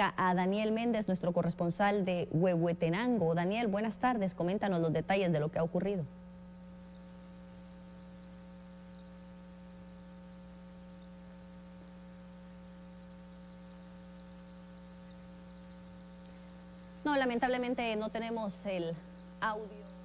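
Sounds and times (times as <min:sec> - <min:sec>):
electrical hum: 0:00.0 - 0:20.0
faint hiss: 0:02.0 - 0:20.0.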